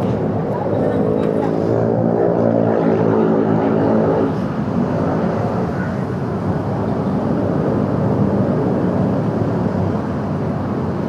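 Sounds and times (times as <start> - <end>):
motorcycle engine and road noise: 0.0 - 11.0.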